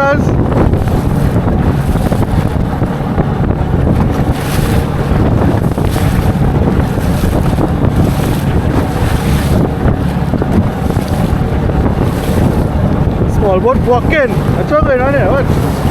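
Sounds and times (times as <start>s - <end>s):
boat motor drone: 0.0s - 15.9s
rushing water: 0.0s - 15.9s
wind buffeting microphone: 0.0s - 15.9s.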